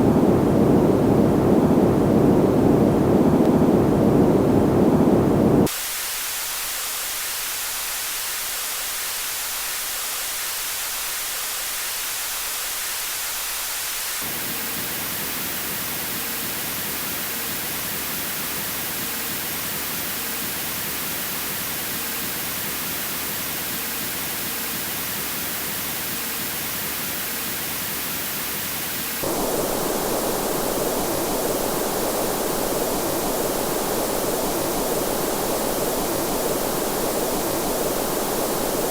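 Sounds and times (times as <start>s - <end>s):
synthesized hiss: 5.5s - 38.9s.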